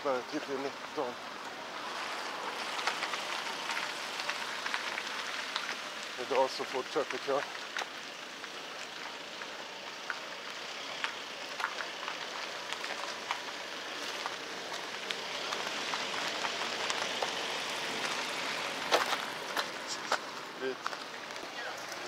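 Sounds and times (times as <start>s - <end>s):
car traffic hiss: 0.0s - 22.0s
car passing close: 0.1s - 22.0s.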